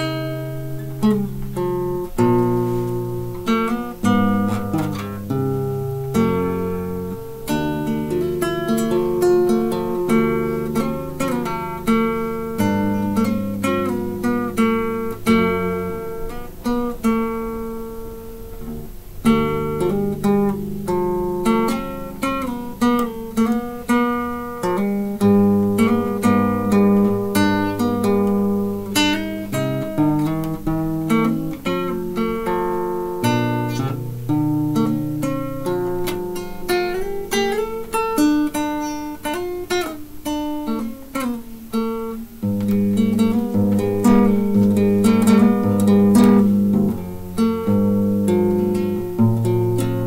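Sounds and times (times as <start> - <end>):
classical acoustic guitar: 0.0 - 50.0.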